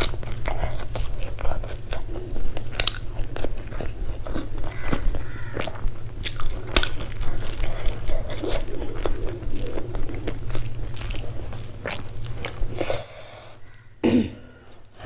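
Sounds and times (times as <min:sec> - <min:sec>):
person chewing with crunches: 0:00.0 - 0:13.9
steady low hum: 0:00.0 - 0:15.0.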